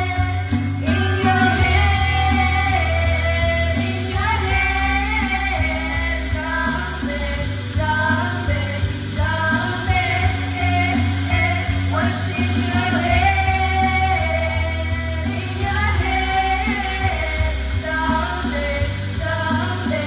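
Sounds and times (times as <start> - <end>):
music backing track with bass: 0.0 - 20.0
women singing karaoke: 0.0 - 20.0.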